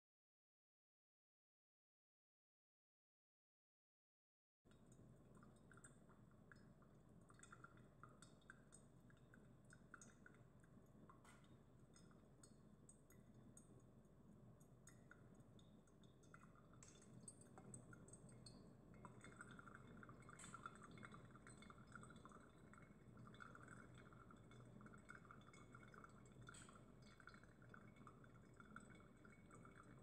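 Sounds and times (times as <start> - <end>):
coffee trickling and dripping: 4.7 - 30.0.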